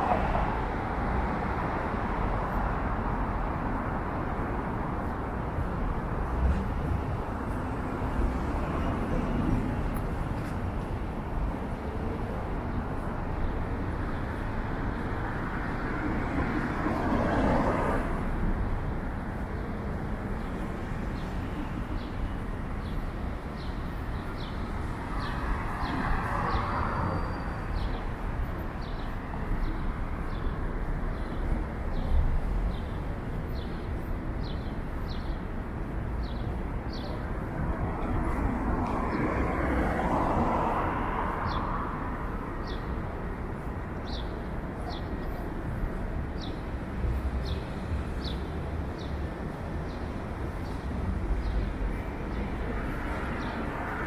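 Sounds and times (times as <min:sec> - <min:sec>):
traffic rumble: 0:00.0 - 0:54.0
vehicles passing: 0:00.0 - 0:54.0.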